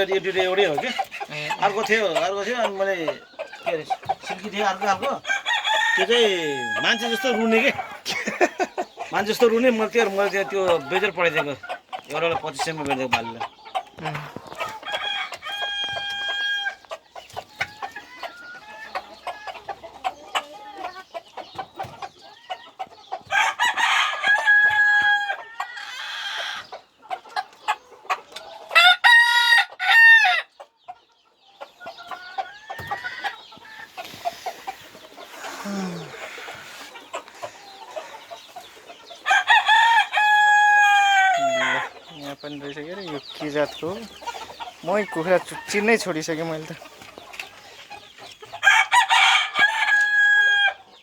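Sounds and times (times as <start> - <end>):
roosters crowing: 0.0 - 21.1, 22.7 - 26.8, 28.4 - 30.6, 31.7 - 51.0
chickens clucking: 0.0 - 51.0.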